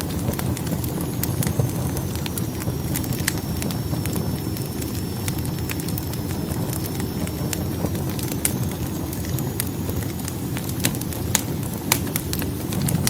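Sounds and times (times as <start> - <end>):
burning logs crackling: 0.0 - 13.0
roar of fireplace flames: 0.0 - 13.0.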